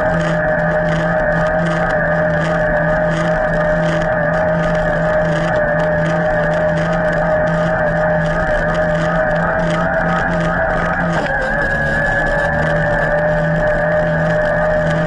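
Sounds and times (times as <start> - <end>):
electric bike motor whining: 0.0 - 15.0
pulsing low hum: 0.0 - 15.0
wind noise: 0.0 - 15.0.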